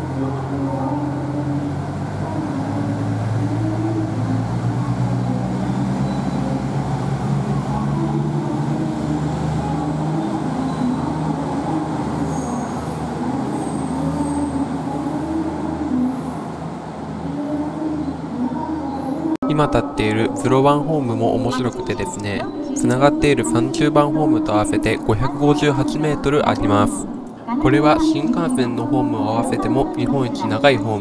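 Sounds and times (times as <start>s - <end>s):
diesel railcar engine humming: 0.0s - 31.0s.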